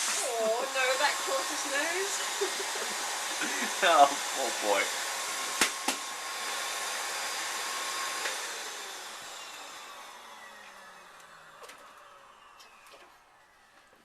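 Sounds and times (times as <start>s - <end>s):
motor winding down: 0.0s - 14.0s
vacuum cleaner running: 0.0s - 14.0s.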